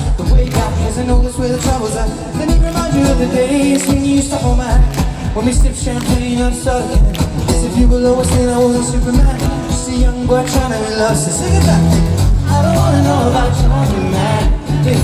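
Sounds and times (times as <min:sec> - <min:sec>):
thumping beat: 0:00.0 - 0:13.8
acoustic guitar music: 0:00.0 - 0:15.0
man singing: 0:00.0 - 0:15.0.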